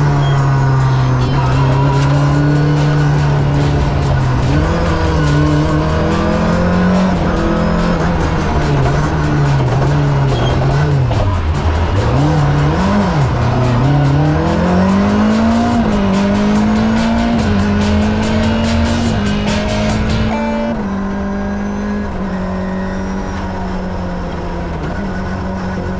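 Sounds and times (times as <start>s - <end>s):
rally car engine accelerating: 0.0s - 25.9s.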